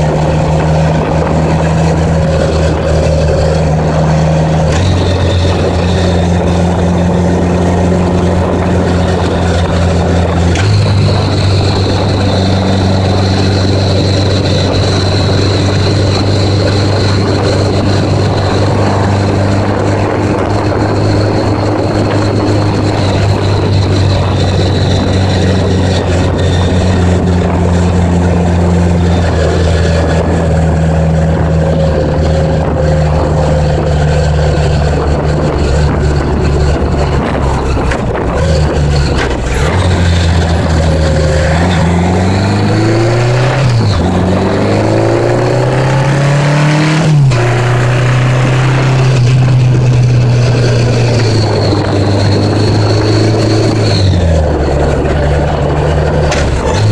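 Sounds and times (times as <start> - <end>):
motorcycle engine droning: 0.0 - 56.9.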